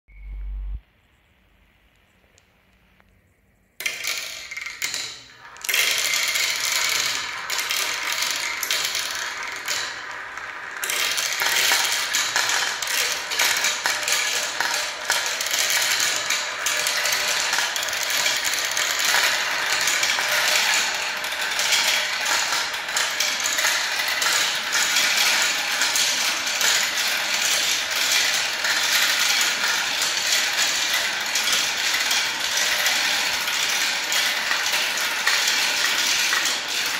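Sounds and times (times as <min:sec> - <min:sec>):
plastic balls rattling through tracks: 0:03.8 - 0:36.9.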